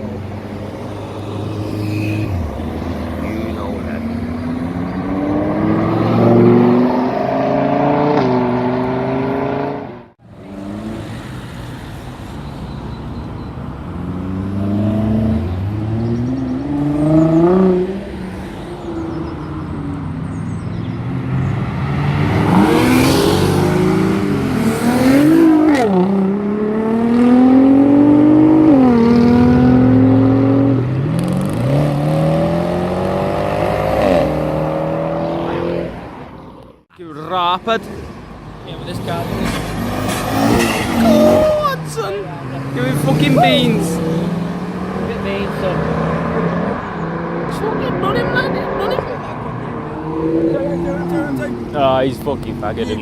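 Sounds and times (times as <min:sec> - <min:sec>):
sports car engines revving: 0:00.0 - 0:53.0.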